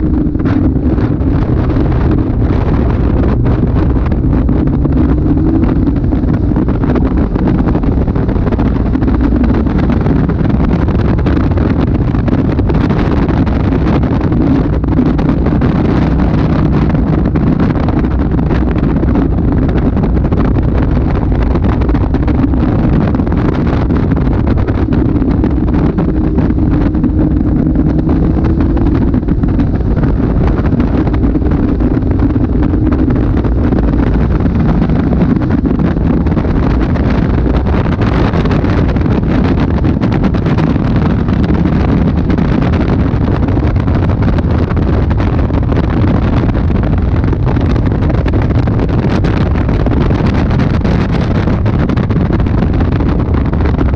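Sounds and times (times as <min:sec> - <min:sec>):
car engine running: 0:00.0 - 0:53.9
wind buffeting microphone: 0:00.0 - 0:53.9.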